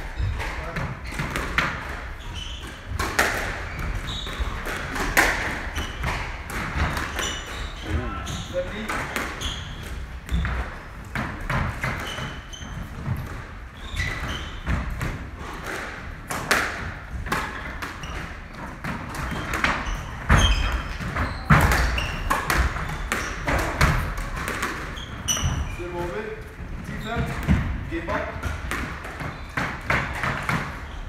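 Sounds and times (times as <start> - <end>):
squash ball struck by racquets: 0.0 - 8.1, 8.7 - 26.2, 26.8 - 30.9
shoes squeaking on wooden floor: 0.0 - 15.5, 17.3 - 31.0.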